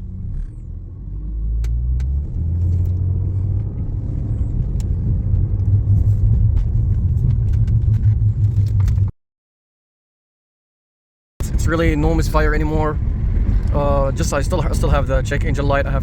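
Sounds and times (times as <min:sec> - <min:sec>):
car engine hum: 0:00.0 - 0:09.1, 0:11.4 - 0:16.0.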